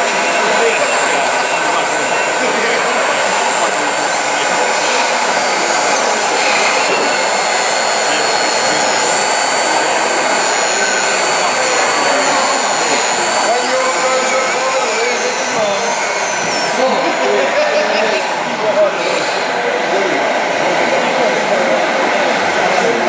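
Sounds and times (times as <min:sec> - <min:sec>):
thin high whine: 0:00.0 - 0:20.3
hum of a busy hall: 0:00.0 - 0:23.0
hydraulic pump whirring: 0:00.0 - 0:23.0.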